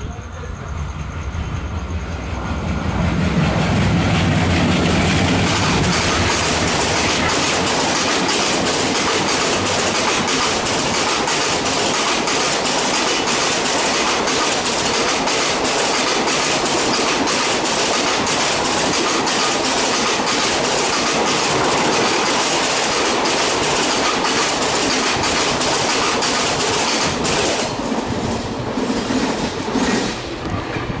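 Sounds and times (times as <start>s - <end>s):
train rushing past: 0.0s - 31.0s
wheels clicking over rail joints: 4.6s - 30.6s.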